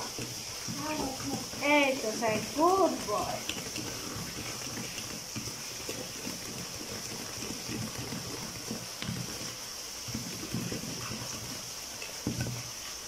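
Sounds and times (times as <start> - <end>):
hand squelching through batter: 0.0 - 13.0.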